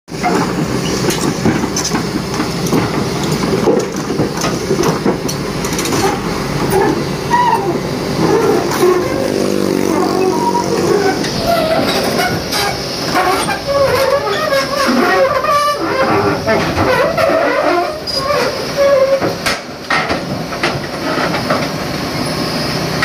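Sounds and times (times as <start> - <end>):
excavator diesel engine under load: 0.1 - 23.0.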